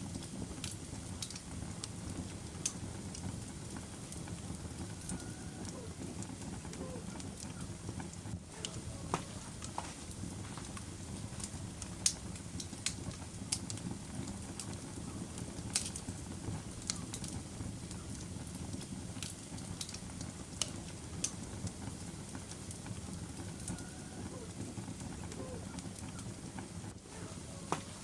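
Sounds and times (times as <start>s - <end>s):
fire burning with low rumble: 0.0s - 28.0s
logs crackling and popping: 0.0s - 28.0s.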